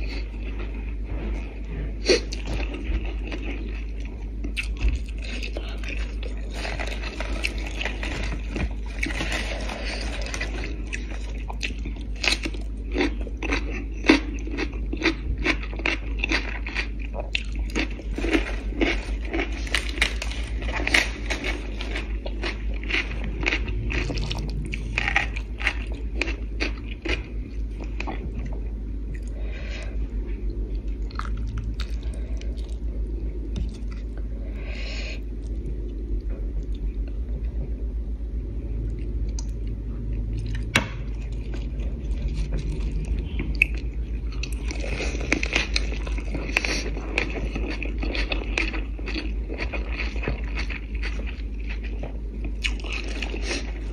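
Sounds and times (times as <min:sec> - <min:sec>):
wet chewing and smacking: 0:00.0 - 0:29.3, 0:38.8 - 0:53.9
steady low hum: 0:00.0 - 0:53.9.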